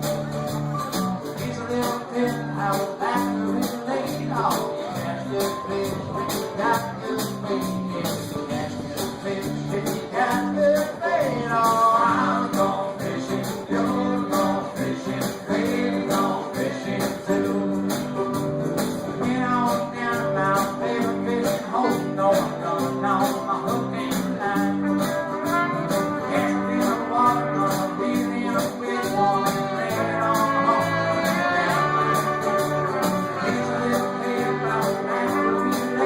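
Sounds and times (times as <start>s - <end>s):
folk band playing country blues: 0.0s - 36.0s.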